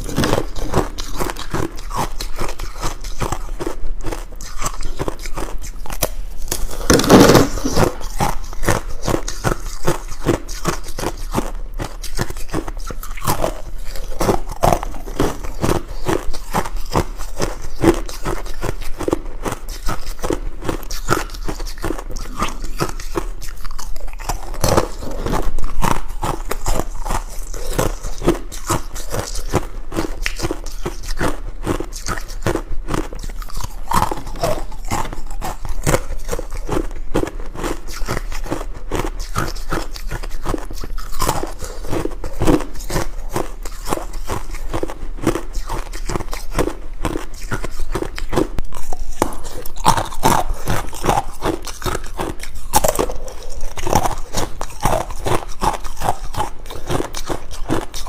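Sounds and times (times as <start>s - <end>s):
ice being crunched and chewed: 0.0s - 58.0s.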